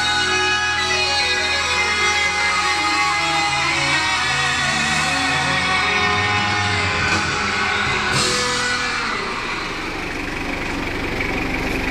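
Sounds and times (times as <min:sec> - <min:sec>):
song with guitar and singing: 0:00.0 - 0:10.3
car engine idling: 0:00.0 - 0:11.9.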